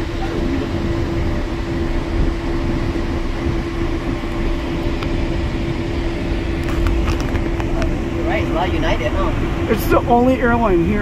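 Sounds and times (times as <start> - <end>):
droning hum: 0.0 - 11.0
low mechanical rumble: 0.0 - 11.0.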